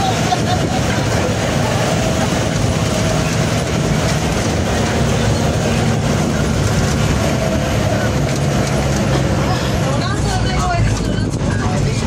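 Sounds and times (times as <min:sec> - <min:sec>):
vehicle body rattle: 0:00.0 - 0:12.0
vehicle engine and road noise: 0:00.0 - 0:12.0.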